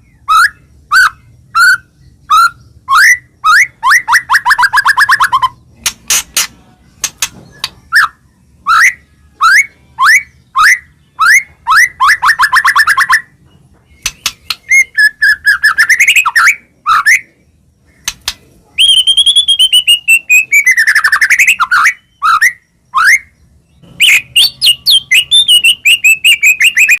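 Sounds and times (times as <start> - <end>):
songbird singing: 0.0 - 27.0.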